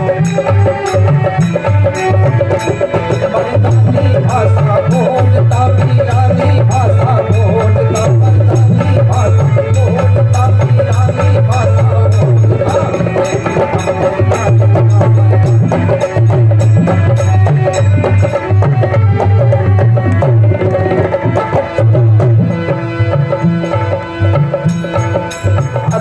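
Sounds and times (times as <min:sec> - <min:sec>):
hand drum beat: 0:00.0 - 0:26.0
harmonium melody: 0:00.0 - 0:26.0
sharp clicking percussion: 0:00.0 - 0:26.0.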